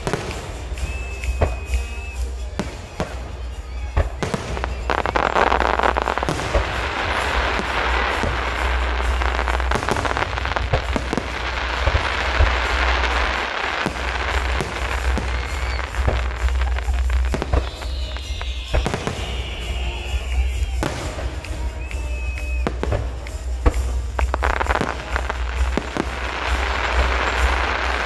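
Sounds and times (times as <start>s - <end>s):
fireworks crackling: 0.0s - 28.0s
fireworks shells bursting: 0.0s - 28.0s.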